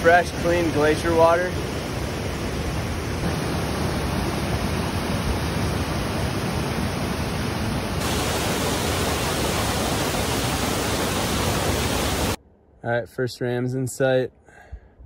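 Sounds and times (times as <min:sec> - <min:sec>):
stream rushing over rocks: 0:00.0 - 0:12.4.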